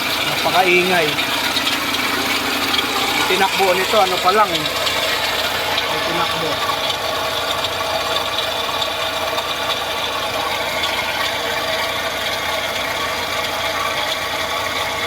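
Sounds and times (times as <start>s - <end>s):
engine with metallic grinding: 0.0s - 15.0s.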